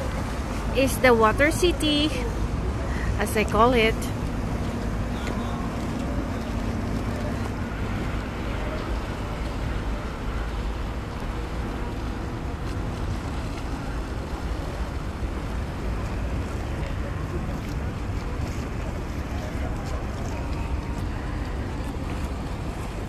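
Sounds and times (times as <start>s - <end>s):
boat engines rumbling: 0.0s - 23.0s
choppy water: 0.0s - 23.0s.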